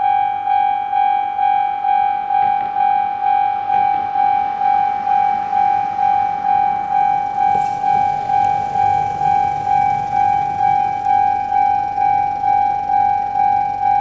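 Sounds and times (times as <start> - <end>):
electronic crossing warning bell: 0.0 - 14.0.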